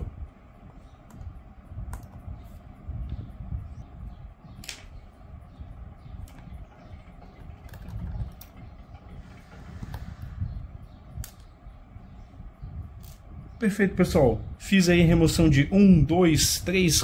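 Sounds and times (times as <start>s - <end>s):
low handling rumble: 0.0s - 16.2s.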